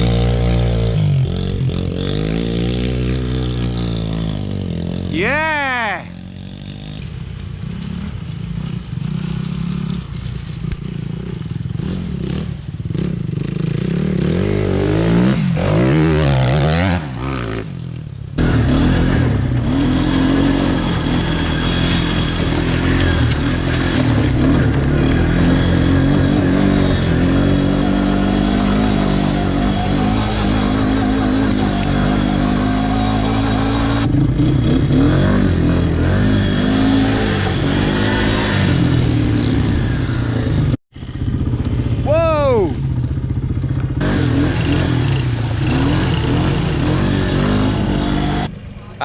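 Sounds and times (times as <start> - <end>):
motorbike engine revving: 0.0 - 10.2, 10.8 - 17.8, 18.4 - 48.5.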